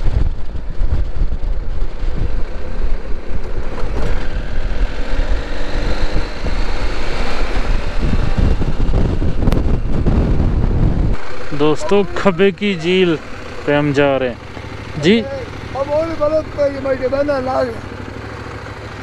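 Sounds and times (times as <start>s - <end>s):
wind buffeting microphone: 0.0s - 17.2s
motorcycle engine running: 0.0s - 19.0s.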